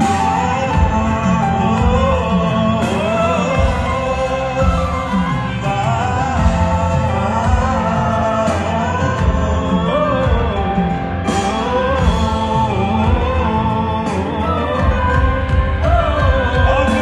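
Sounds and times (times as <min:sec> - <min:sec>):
instrumental backing music: 0:00.0 - 0:17.0
man singing: 0:00.0 - 0:17.0.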